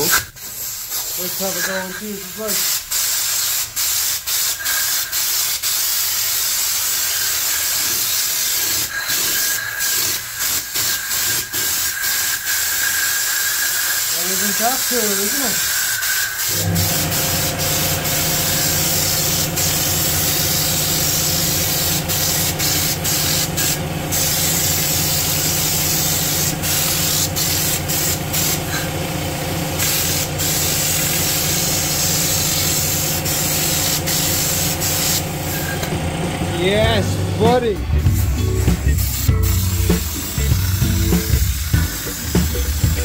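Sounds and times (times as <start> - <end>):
spray gun hissing: 0.0 - 35.9, 36.8 - 43.0.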